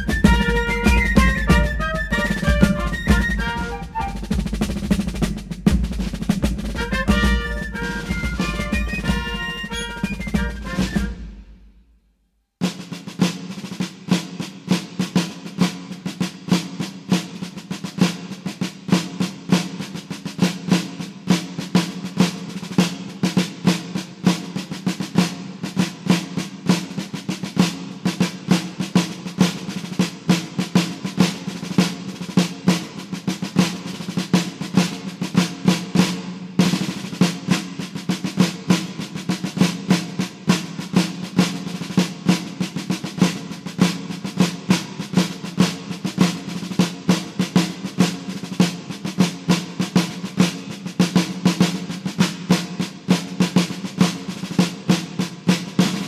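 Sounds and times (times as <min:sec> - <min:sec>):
snare drum rolls: 0:00.0 - 0:12.0, 0:12.6 - 0:56.0.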